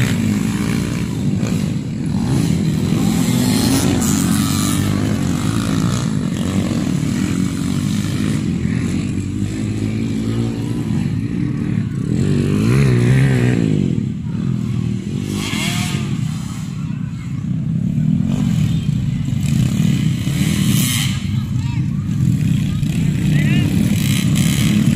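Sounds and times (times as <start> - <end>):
dirt bike engines revving: 0.0 - 24.9
dirt bike passing close: 0.0 - 24.9.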